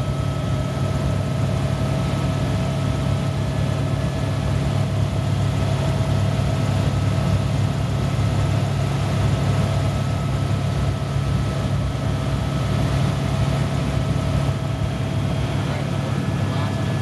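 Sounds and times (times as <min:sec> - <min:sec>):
helicopter drone and whine: 0:00.0 - 0:17.0.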